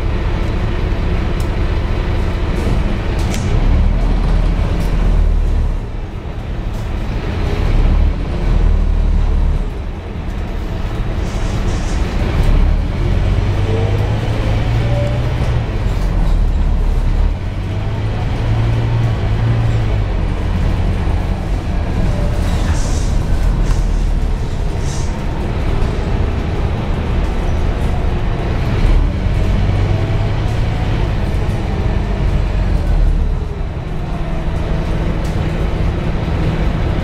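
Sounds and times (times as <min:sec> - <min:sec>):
bus diesel engine droning: 0:00.0 - 0:37.0
road and body noise: 0:00.0 - 0:37.0.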